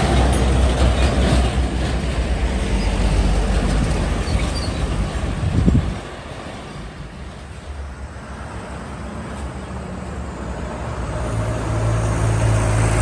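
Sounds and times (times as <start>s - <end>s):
diesel truck passing: 0.0s - 13.0s.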